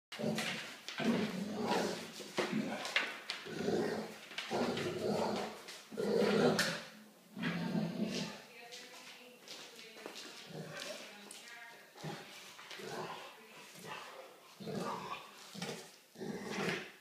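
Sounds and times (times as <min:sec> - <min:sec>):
dogs growling: 0:00.1 - 0:08.4, 0:10.4 - 0:11.0, 0:11.9 - 0:17.0.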